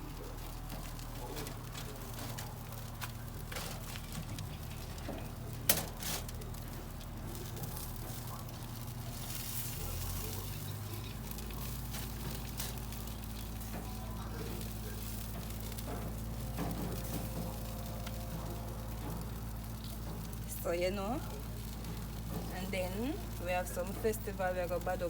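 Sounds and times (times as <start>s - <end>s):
chicken sizzling on a grill: 0.0s - 25.0s
steady low hum: 0.0s - 25.0s.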